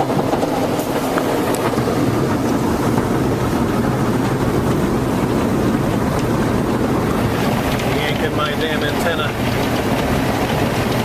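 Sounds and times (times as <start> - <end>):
automatic car wash rushing: 0.0 - 11.0.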